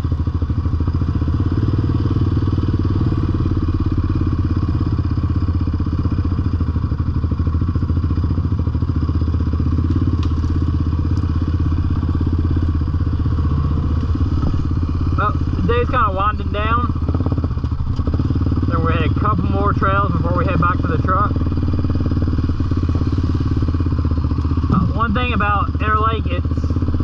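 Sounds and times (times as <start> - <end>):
quad engine idling low: 0.0 - 27.0.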